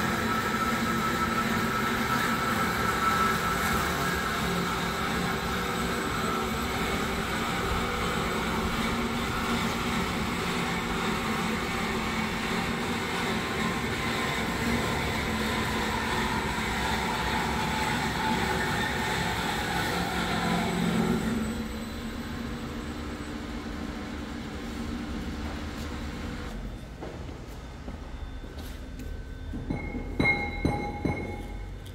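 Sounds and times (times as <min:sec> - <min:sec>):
machine whirring: 0:00.0 - 0:31.9.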